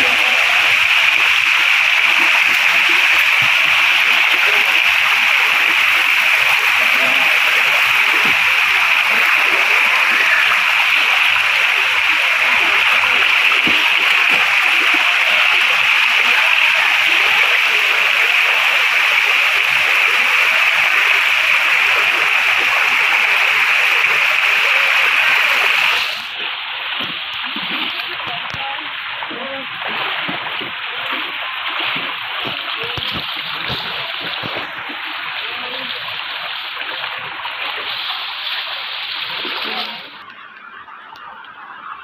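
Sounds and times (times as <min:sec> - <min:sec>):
stream rushing over rocks: 0:00.0 - 0:40.3.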